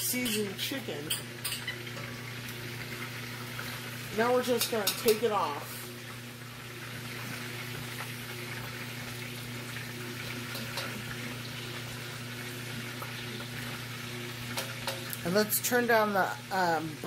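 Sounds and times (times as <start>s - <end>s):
chicken sizzling in a pot: 0.0s - 17.0s.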